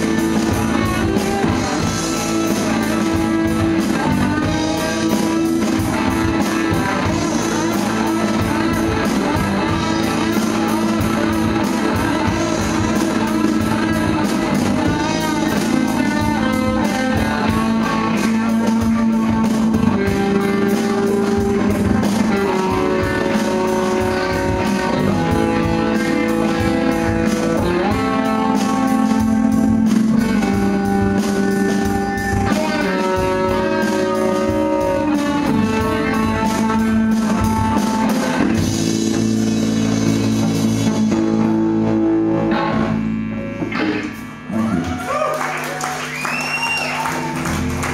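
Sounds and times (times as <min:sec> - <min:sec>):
bass guitar: 0:00.0 - 0:47.9
distorted electric guitars: 0:00.0 - 0:47.9
drum kit: 0:00.0 - 0:47.9.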